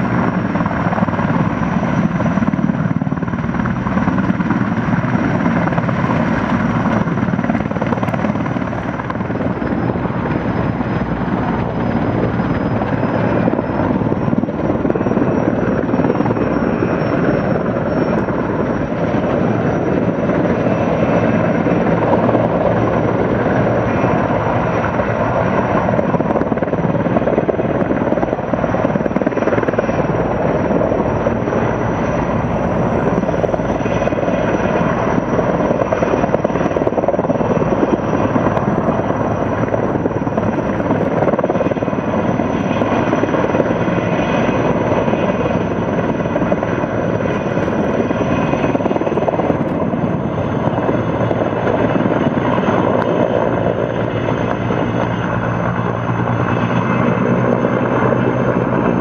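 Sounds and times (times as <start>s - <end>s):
helicopter rotor and turbine whine: 0.0s - 59.0s.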